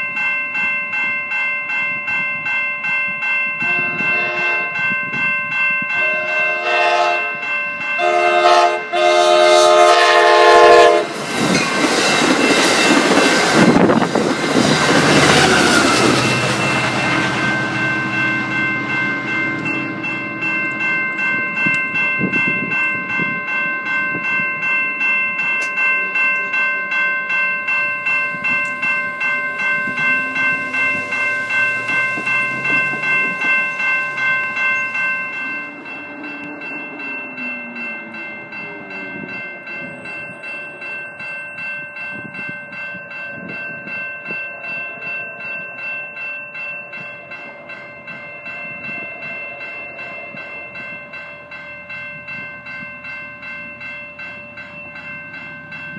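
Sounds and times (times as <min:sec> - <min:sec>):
crossing warning bell ringing: 0:00.0 - 0:55.9
train wheels clacking on rails: 0:07.9 - 0:26.6, 0:27.3 - 0:55.9.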